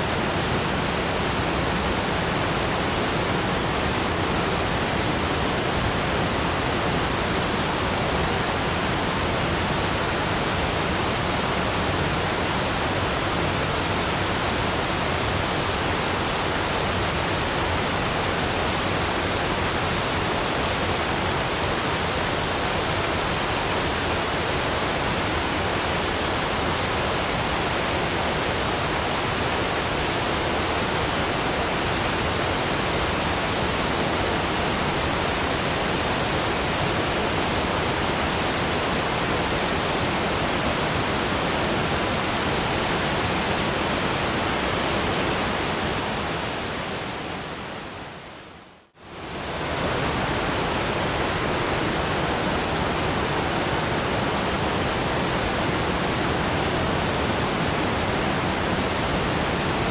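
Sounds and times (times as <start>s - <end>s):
steady brown noise: 0.0s - 59.9s.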